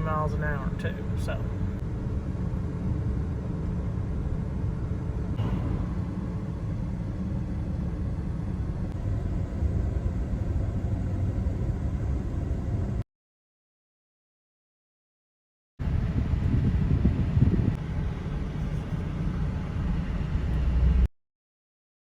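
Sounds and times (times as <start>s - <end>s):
low vehicle rumble: 0.0s - 13.0s, 15.8s - 21.1s.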